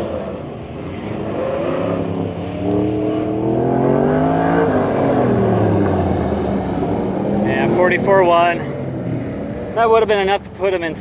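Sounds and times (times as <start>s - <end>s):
pickup truck engine accelerating: 0.0s - 11.0s.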